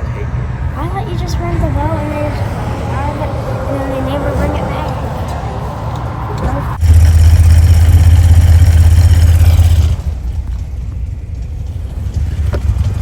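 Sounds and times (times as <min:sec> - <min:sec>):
engine running with deep hum: 0:00.0 - 0:13.0.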